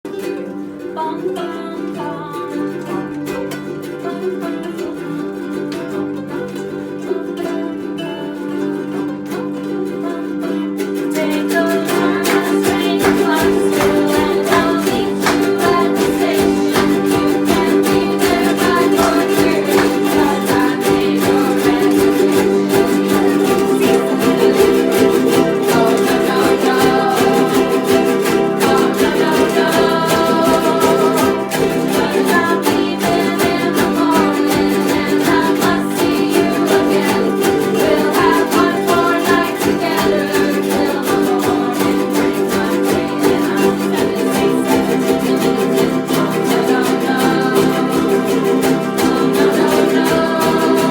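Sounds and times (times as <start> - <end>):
ukulele strumming chords: 0.0 - 50.9.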